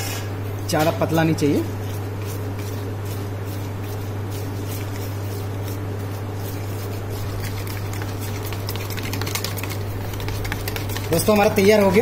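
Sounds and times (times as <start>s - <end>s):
steady low hum: 0.0s - 12.0s
whisk beating batter in metal bowl: 1.0s - 12.0s.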